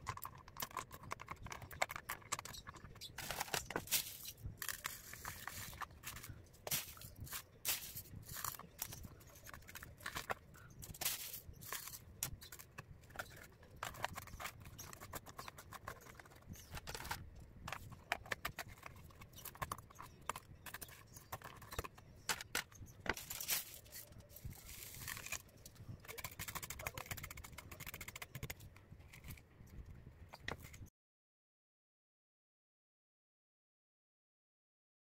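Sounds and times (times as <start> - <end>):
clicks and scrapes of small objects: 0.0 - 30.9.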